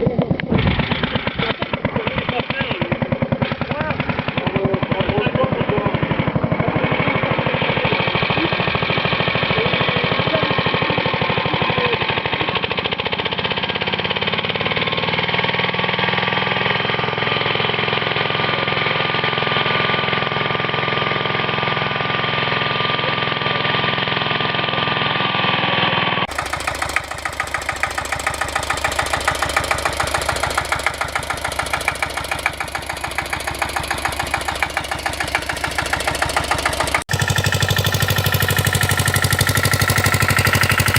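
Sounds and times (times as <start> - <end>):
walk-behind tractor engine running: 0.0 - 40.9.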